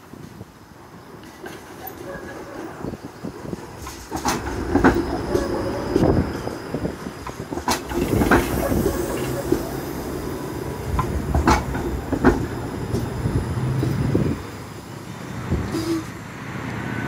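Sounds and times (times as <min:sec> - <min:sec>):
wheels clacking on track: 0:00.0 - 0:16.8
streetcar rumbling: 0:00.0 - 0:17.0.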